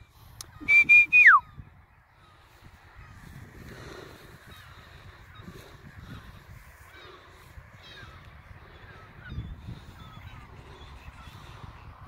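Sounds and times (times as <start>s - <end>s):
distant bird calls: 0.0s - 12.0s
wind rumbling on microphone: 0.0s - 12.0s.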